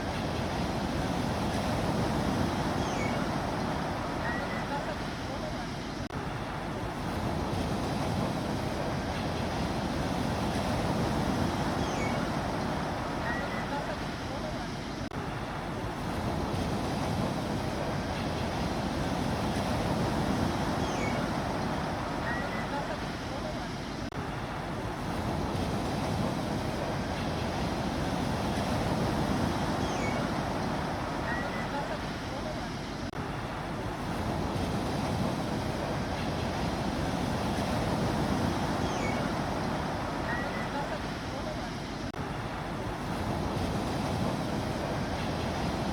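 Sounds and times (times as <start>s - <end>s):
surf washing in: 0.0s - 45.9s.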